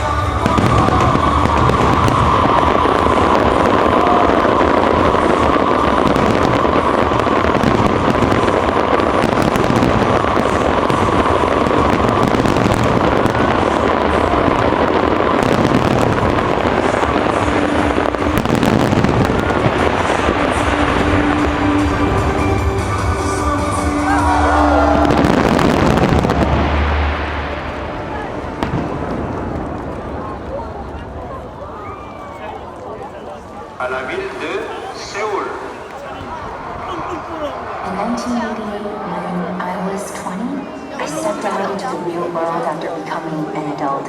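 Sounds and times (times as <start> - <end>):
fireworks crackling: 0.0 - 44.0.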